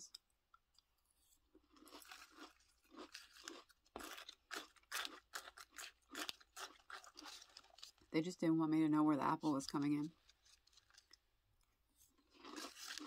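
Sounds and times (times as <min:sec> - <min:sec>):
person chewing crunchy cereal: 0:00.8 - 0:08.1, 0:09.4 - 0:13.0.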